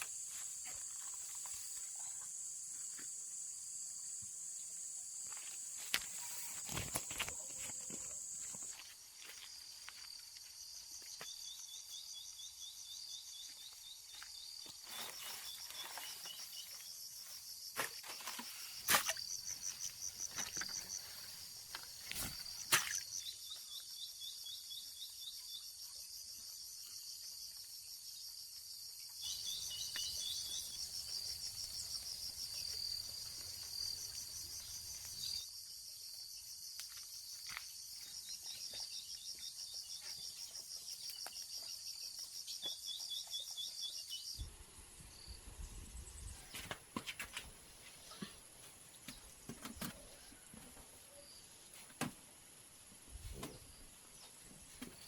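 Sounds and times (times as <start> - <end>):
crickets chirping: 0.0 - 51.7.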